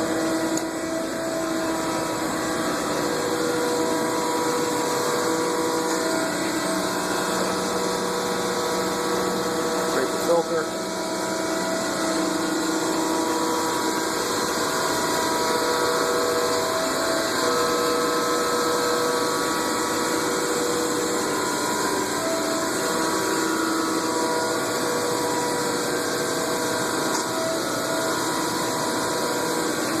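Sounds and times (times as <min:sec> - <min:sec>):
surface grinder running: 0:00.0 - 0:30.0.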